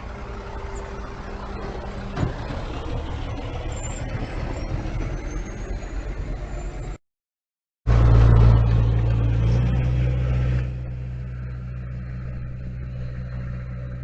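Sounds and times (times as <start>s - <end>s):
diesel truck engine running: 0.0s - 7.0s, 7.9s - 14.0s.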